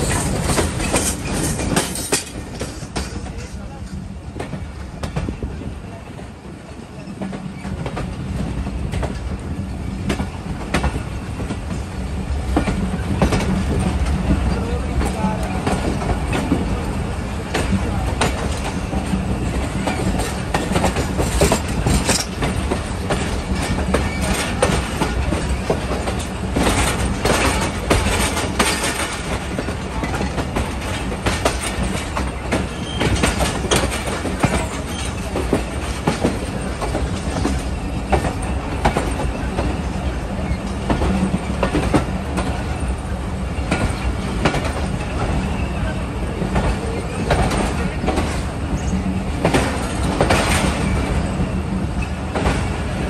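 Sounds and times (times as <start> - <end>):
wheels clanking over rail joints: 0.0 - 5.6, 7.0 - 53.0
train wheels rumbling on rail: 0.0 - 53.0.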